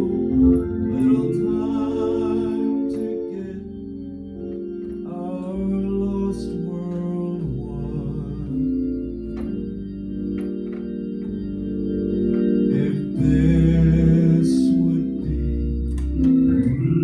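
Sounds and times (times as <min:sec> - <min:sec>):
organ playing gospel hymn: 0:00.0 - 0:17.0.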